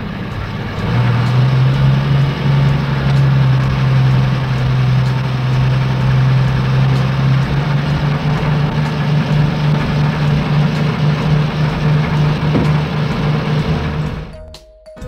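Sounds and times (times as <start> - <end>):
heavy vehicle engine idling: 0.0 - 14.4.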